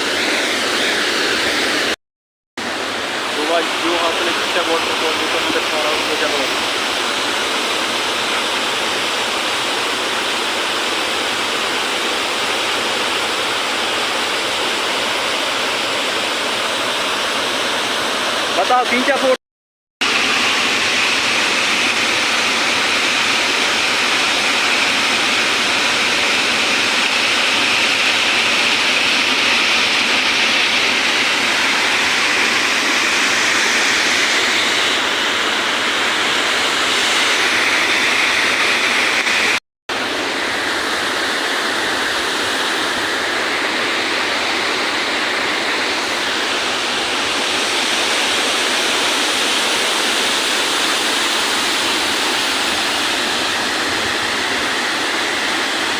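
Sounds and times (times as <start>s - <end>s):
waterfall rushing: 0.0s - 2.0s, 2.6s - 19.4s, 20.0s - 55.9s.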